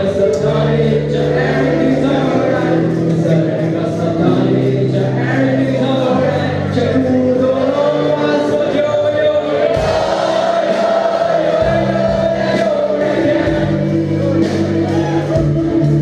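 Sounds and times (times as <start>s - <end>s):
bass guitar: 0.0s - 16.0s
drums: 0.0s - 16.0s
electric guitars: 0.0s - 16.0s.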